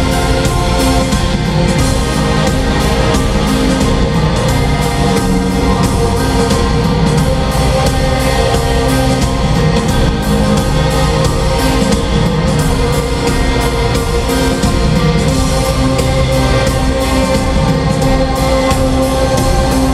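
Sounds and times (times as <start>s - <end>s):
live rock band playing: 0.0s - 19.9s.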